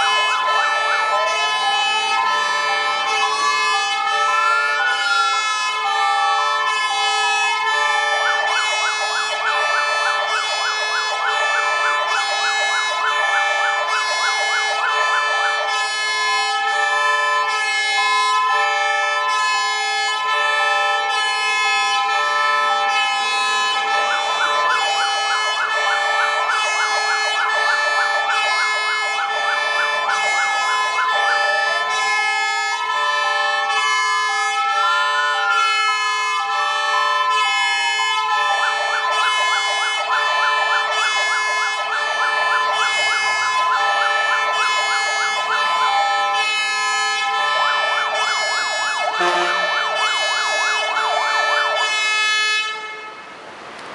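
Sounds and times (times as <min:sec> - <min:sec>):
fast yelp siren: 0:00.0 - 0:52.9
two-tone siren: 0:00.0 - 0:53.2
wailing siren: 0:00.0 - 0:53.2.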